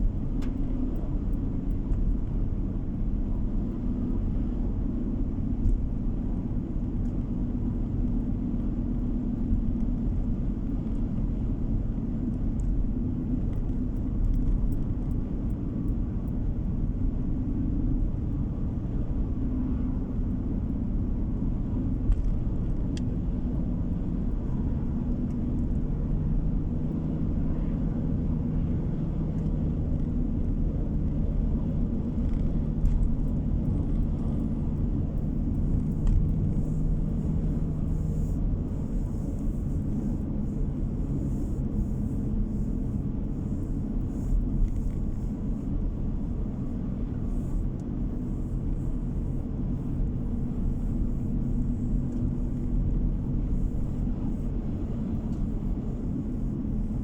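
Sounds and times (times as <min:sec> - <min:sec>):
car engine hum: 0:00.0 - 0:57.0
tyre road noise: 0:00.0 - 0:57.0.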